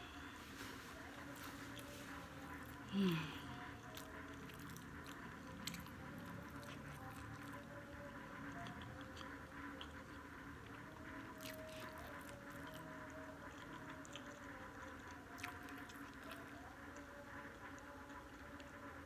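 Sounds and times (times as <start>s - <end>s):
faint hum: 0.0s - 19.0s
person chewing noodles: 0.0s - 19.0s.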